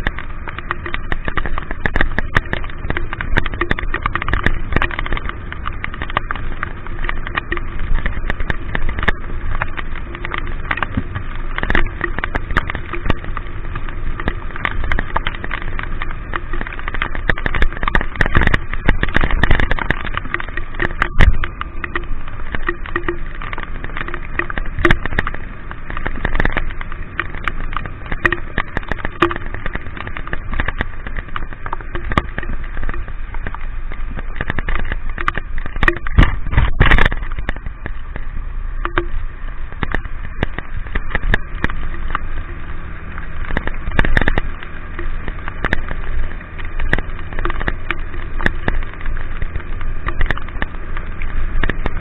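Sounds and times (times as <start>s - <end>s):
raindrops hitting camera: 0.0s - 52.0s
wind and road noise: 0.0s - 52.0s.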